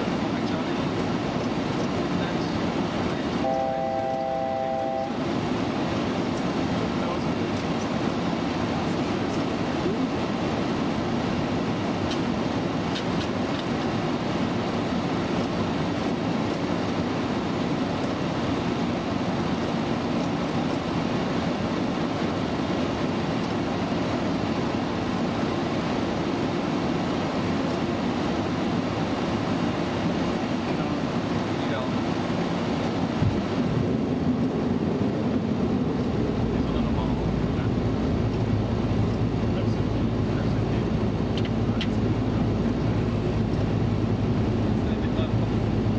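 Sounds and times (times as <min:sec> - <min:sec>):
cockpit airflow and engine hum: 0:00.0 - 0:45.9.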